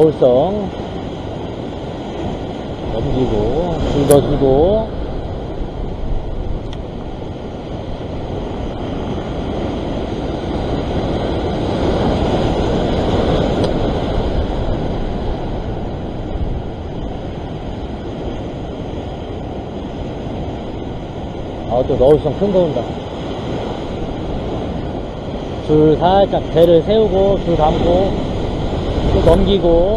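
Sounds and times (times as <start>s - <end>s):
surf breaking against rocks: 0.0s - 29.9s.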